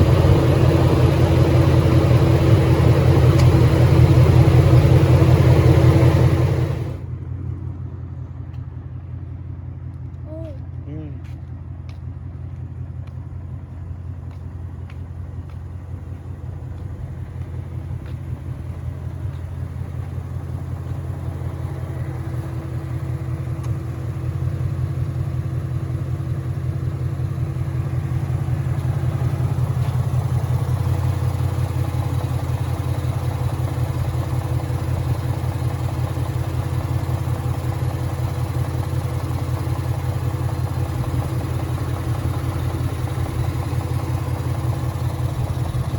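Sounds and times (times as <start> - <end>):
rhythmic engine knocking: 0.0 - 7.0, 11.4 - 45.9
car engine idling: 0.0 - 45.9.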